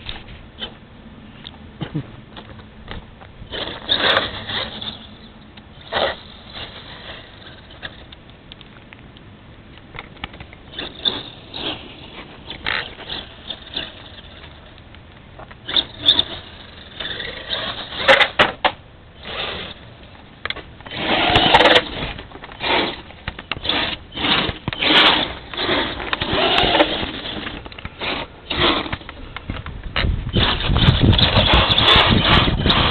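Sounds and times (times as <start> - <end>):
rc truck motor whirring: 3.4 - 8.3, 10.2 - 14.9, 15.6 - 32.9.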